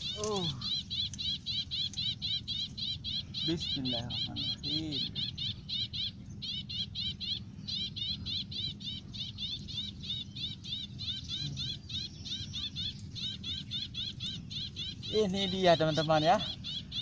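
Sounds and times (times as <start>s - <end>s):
bird chirping: 0.0s - 17.0s
low steady rumble: 0.0s - 17.0s.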